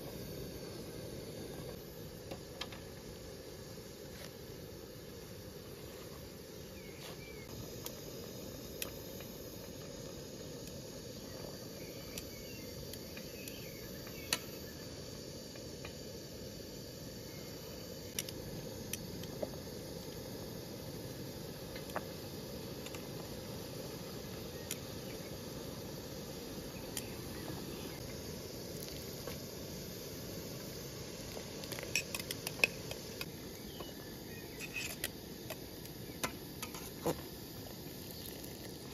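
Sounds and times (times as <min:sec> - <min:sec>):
faint insect chirping: 0:00.0 - 0:38.9.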